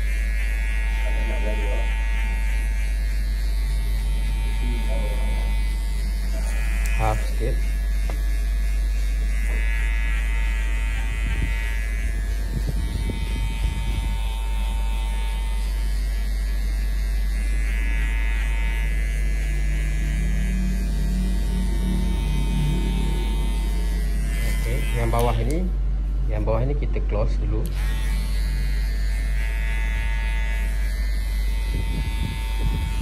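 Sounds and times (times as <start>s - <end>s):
electric hair clipper cutting hair: 0.0s - 33.0s.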